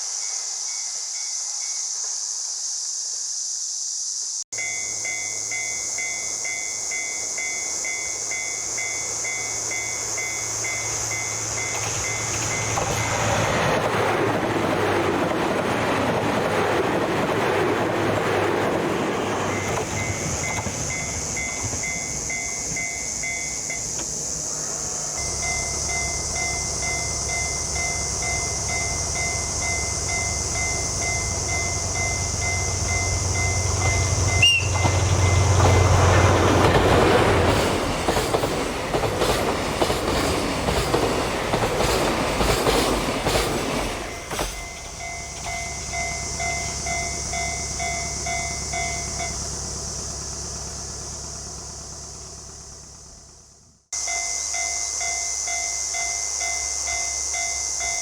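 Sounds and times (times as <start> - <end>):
diesel train passing: 0.0 - 2.8, 4.4 - 58.0
level-crossing warning bell ringing: 4.5 - 58.0
low diesel rumble: 4.6 - 40.9, 42.5 - 58.0.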